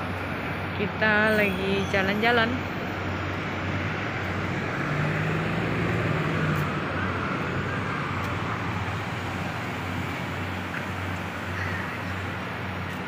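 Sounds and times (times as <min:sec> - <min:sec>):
bus engine humming: 0:00.0 - 0:13.0
city street traffic: 0:00.0 - 0:13.0.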